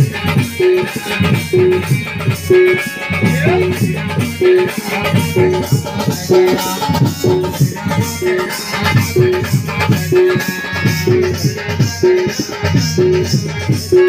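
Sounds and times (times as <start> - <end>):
drums beating steady rhythm: 0.0 - 14.0
jingling metal percussion: 0.0 - 14.0.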